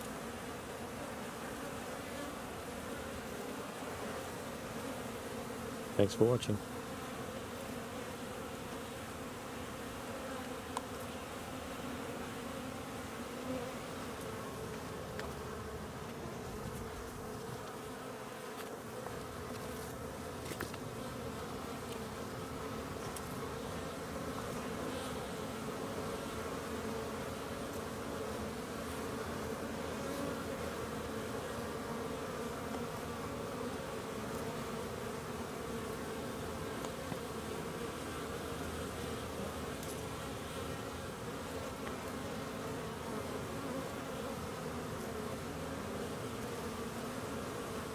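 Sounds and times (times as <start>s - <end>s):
honeybees buzzing: 0.0s - 47.9s.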